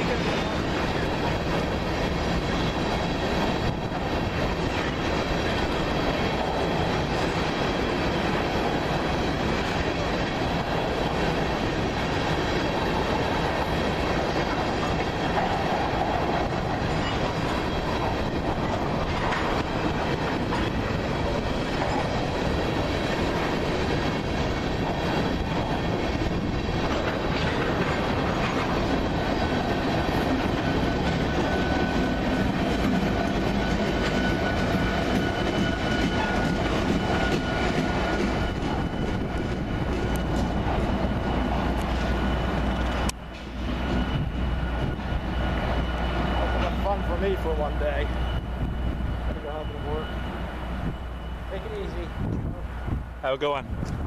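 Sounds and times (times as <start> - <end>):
wheels clacking over rail joints: 0.0 - 48.1
freight cars rumbling: 0.0 - 54.0.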